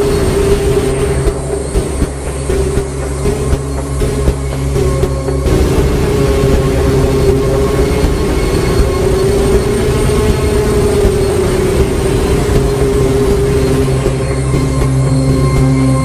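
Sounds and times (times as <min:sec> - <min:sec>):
loud low drone: 0:00.0 - 0:16.0.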